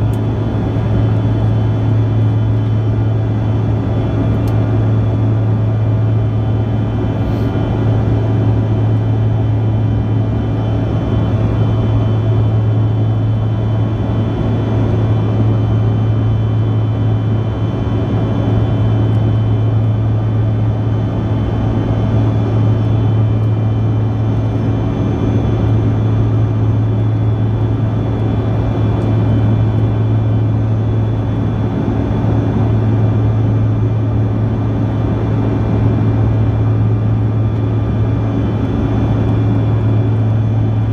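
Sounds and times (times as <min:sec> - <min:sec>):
jet engines droning in cabin: 0:00.0 - 0:40.9
steady whining engine tones: 0:00.0 - 0:40.9.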